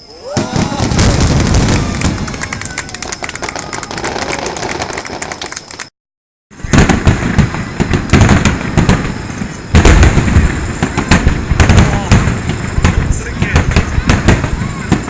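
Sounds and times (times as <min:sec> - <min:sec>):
fireworks booming and crackling: 0:00.2 - 0:05.9, 0:06.5 - 0:15.0.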